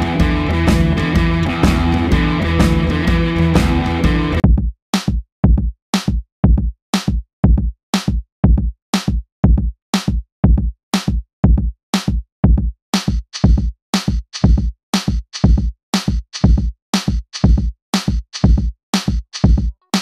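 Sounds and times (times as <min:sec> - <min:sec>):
drum machine beat: 0:00.0 - 0:20.0.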